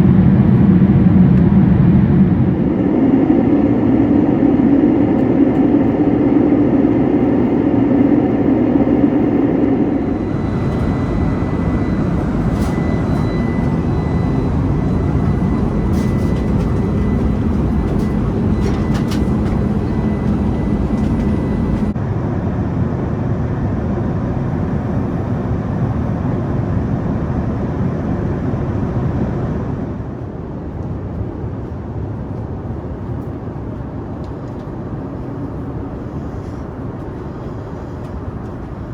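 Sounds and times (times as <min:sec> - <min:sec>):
airplane cabin rush: 0:00.0 - 0:22.1, 0:23.8 - 0:38.9.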